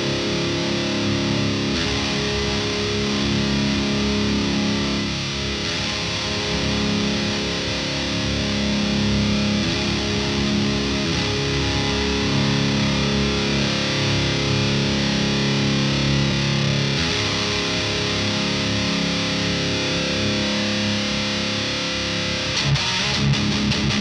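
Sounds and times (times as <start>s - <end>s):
distorted electric guitar chords: 0.0s - 24.0s.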